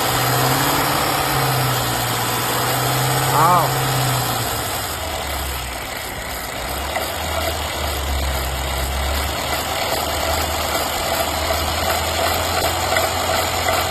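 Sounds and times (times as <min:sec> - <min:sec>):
petrol engine humming: 0:00.0 - 0:13.9.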